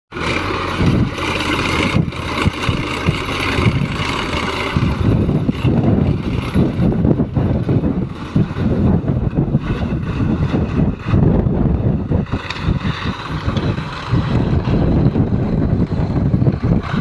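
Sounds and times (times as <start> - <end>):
tractor diesel engine running: 0.1 - 17.0
wind buffeting microphone: 0.2 - 17.0.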